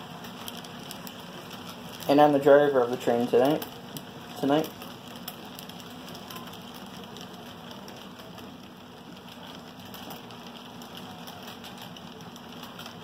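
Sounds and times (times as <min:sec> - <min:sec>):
faint steady hum: 0:00.0 - 0:13.0
model train cars rolling: 0:00.0 - 0:13.0
wheels clicking on rails: 0:00.0 - 0:13.0.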